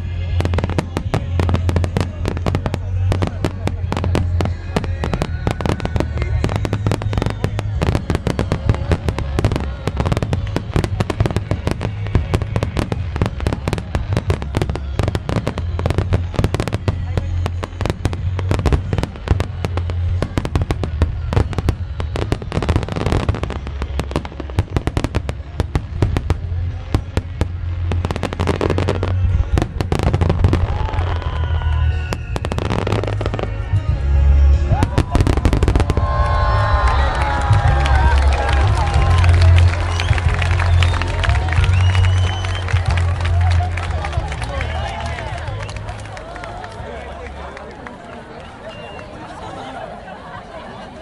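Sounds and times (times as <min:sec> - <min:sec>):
fireworks cracking and popping: 0:00.0 - 0:49.2
music playing: 0:00.0 - 0:51.0.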